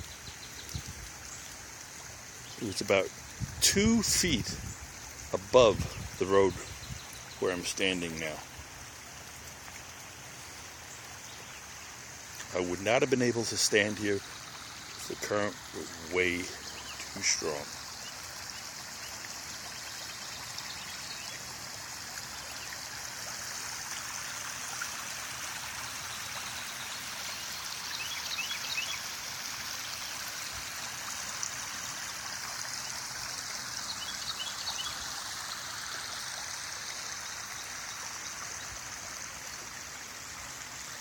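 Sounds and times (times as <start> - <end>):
creek water rushing: 0.0 - 41.0.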